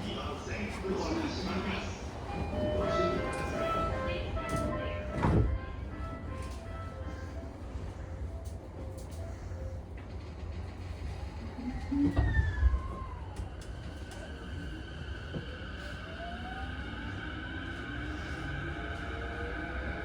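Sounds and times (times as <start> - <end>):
low train rumble: 0.0 - 20.0.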